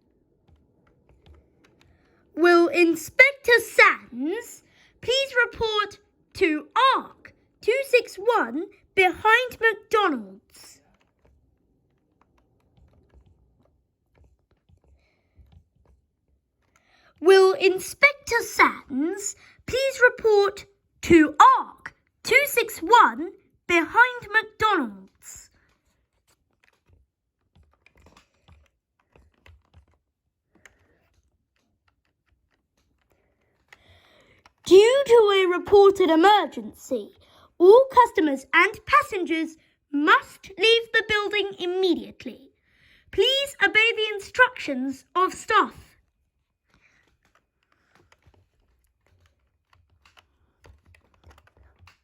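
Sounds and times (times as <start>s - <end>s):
faint clicks and taps: 0.0s - 35.2s, 42.0s - 52.0s.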